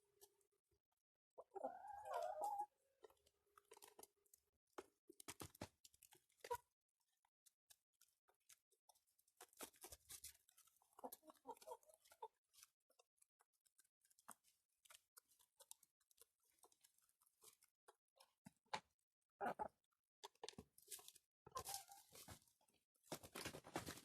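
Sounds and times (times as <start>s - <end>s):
hens pecking at feed: 1.4s - 24.0s.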